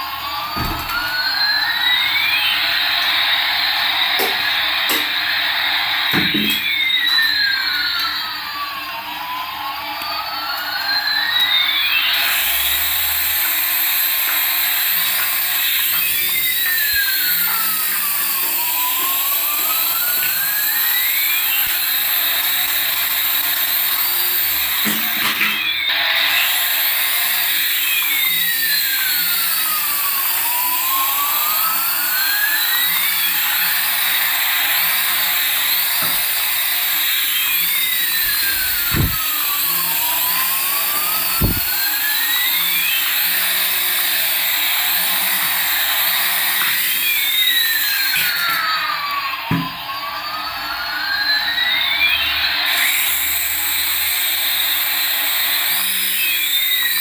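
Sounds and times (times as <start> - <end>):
toy jet engine whine: 0.0 - 57.0.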